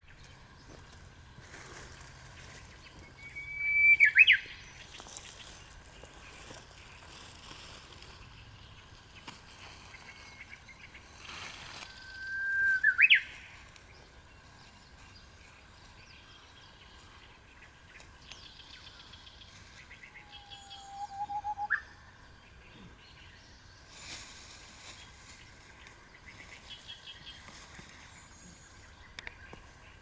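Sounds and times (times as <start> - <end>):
bush warbler singing: 0.0 - 30.0.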